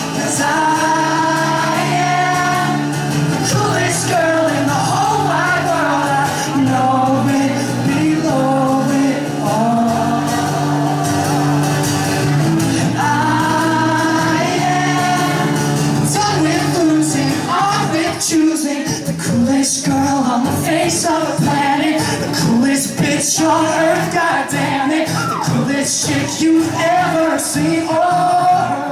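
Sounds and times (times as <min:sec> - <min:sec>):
man singing: 0:00.0 - 0:11.6, 0:12.3 - 0:28.9
acoustic guitar strumming: 0:00.0 - 0:28.9.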